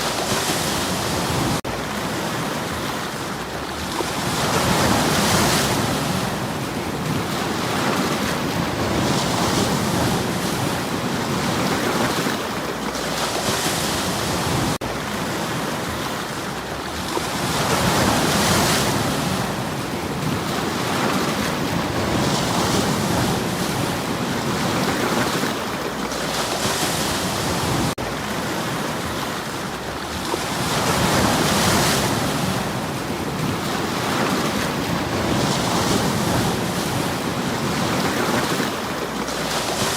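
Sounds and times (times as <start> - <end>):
waves washing over stones: 0.0 - 39.9.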